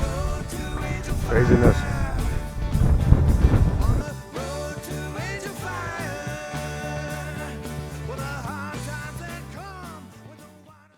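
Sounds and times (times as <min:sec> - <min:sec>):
rock song with bass line: 0:00.0 - 0:10.8.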